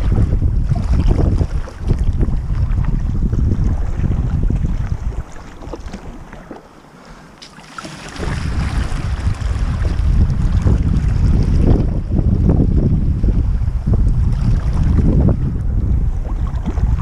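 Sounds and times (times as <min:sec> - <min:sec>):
wind buffeting microphone: 0:00.0 - 0:06.4, 0:07.9 - 0:17.0
water sloshing against hull: 0:00.0 - 0:17.0.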